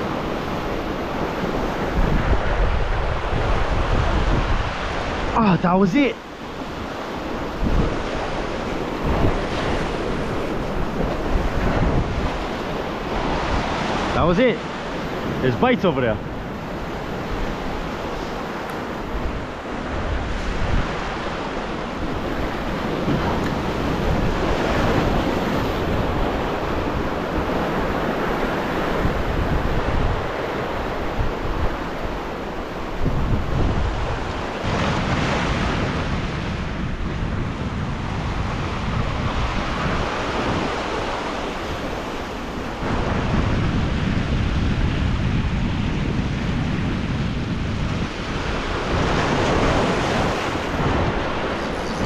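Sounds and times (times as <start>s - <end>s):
ocean surf breaking on rocks: 0.0s - 52.0s
wind buffeting microphone: 0.0s - 52.0s.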